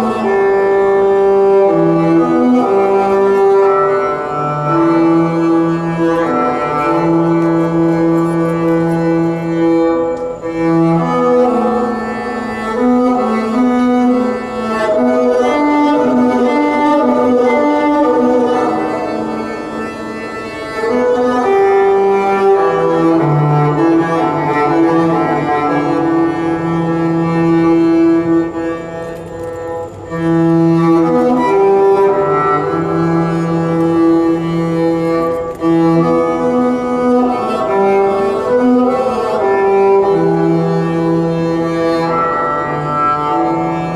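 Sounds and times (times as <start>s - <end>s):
sustained bowed string notes: 0.0s - 43.9s.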